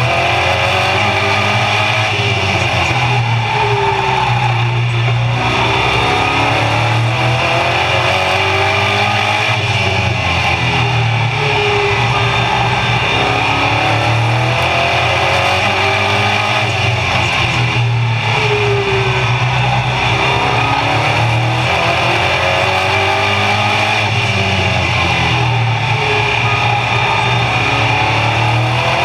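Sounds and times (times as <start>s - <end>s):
race car engine running hard: 0.0s - 29.0s.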